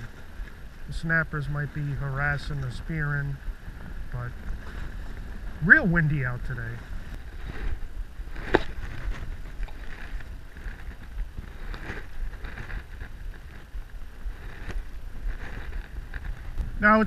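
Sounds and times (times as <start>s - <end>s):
choppy water washing: 0.0s - 17.0s
wind buffeting microphone: 0.0s - 17.0s.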